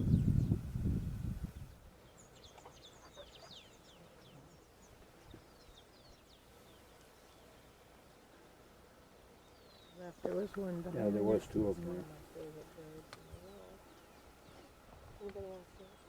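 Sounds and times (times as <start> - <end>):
small birds chirping: 0.0 - 8.6, 9.2 - 16.0.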